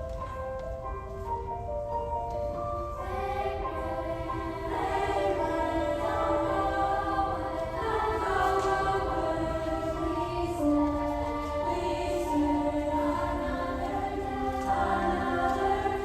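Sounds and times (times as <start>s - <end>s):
piano accompaniment: 0.0s - 16.0s
youth choir singing: 2.9s - 16.0s.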